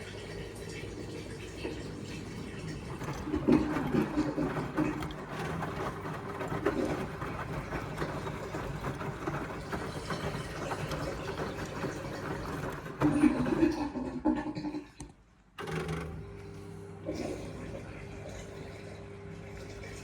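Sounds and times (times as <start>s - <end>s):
washing machine churning: 0.0s - 15.0s, 15.6s - 20.0s.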